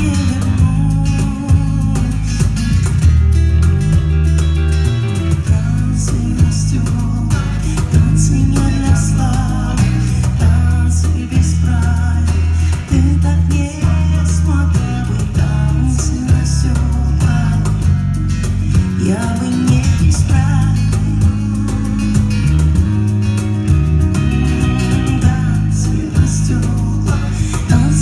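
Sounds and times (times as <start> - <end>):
person singing: 0.0 - 2.9, 5.2 - 28.0
bass line: 0.0 - 28.0
guitar: 0.0 - 28.0.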